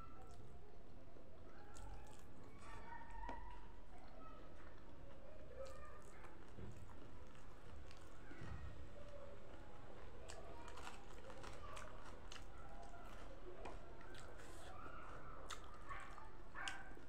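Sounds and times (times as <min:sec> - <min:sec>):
chewing: 0:00.2 - 0:17.0.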